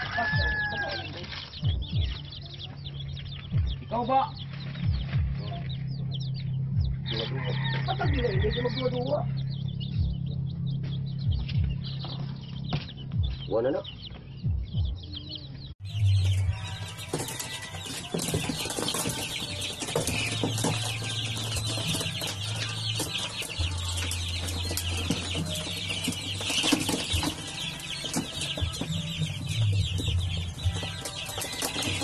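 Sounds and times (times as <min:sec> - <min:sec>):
chicks peeping and clucking: 0:00.0 - 0:32.0.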